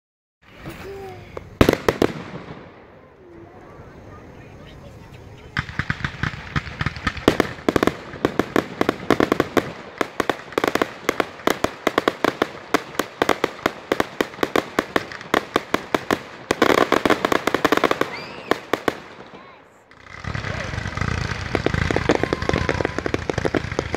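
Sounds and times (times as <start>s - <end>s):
fireworks bangs and pops: 0.4s - 3.1s, 5.0s - 23.9s.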